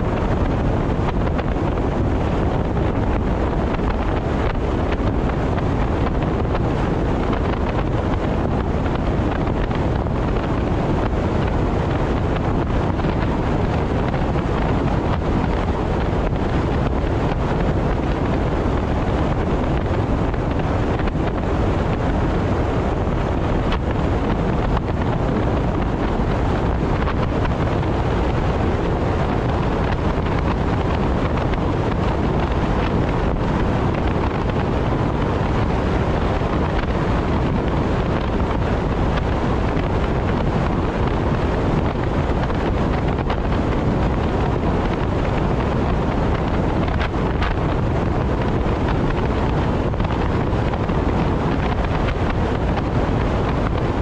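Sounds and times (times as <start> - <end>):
car road noise: 0.0 - 54.0
wind buffeting microphone: 0.0 - 54.0.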